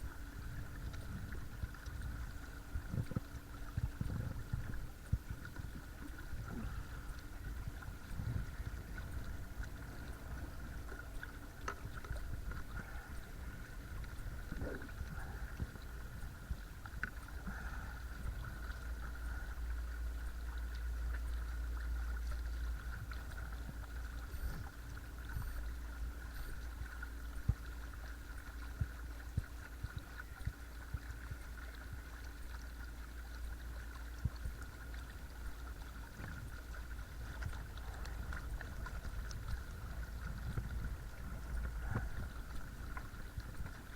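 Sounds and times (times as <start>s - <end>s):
water washing past hull: 0.0s - 43.9s.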